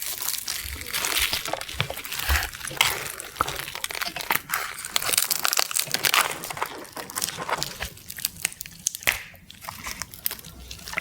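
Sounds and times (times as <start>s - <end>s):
crisp crunching while eating: 0.0s - 11.0s.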